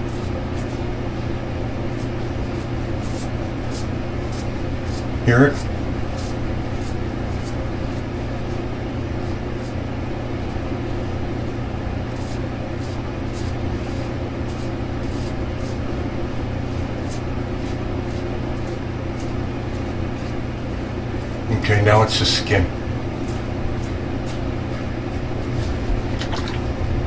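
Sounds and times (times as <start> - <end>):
steady low hum: 0.0 - 27.0
razor scraping stubble: 1.9 - 10.0, 12.0 - 26.6.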